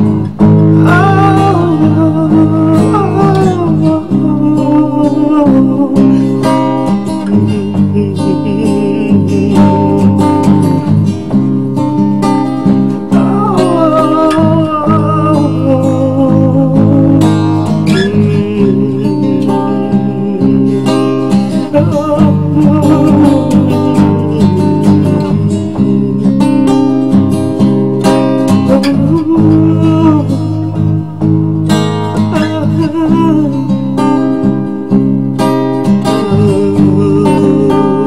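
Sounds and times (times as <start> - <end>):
acoustic guitar playing: 0.0 - 38.0.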